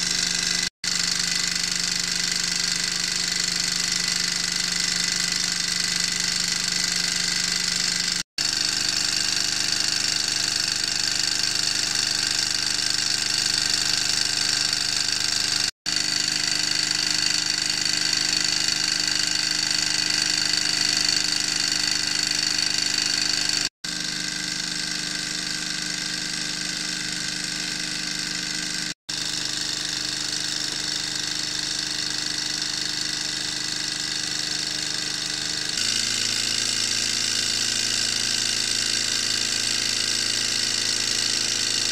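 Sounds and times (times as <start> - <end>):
model engine whirring and rattling: 0.0 - 41.9.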